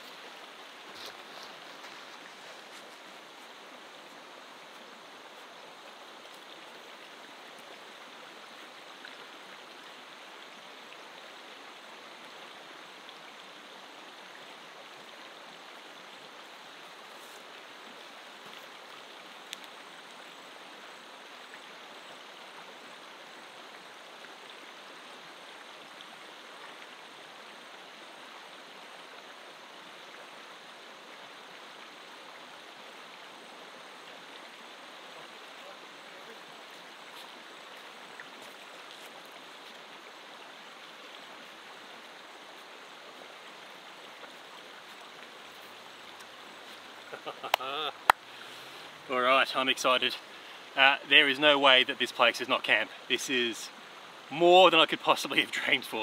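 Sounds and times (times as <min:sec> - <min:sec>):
river water over rocks: 0:00.0 - 0:56.0.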